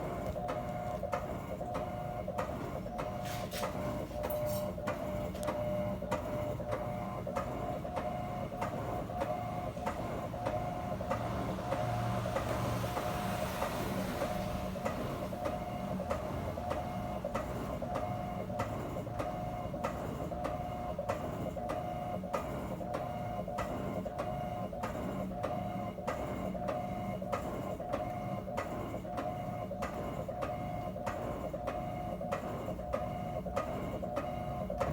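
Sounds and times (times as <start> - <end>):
washing machine whine: 0.0 - 34.9.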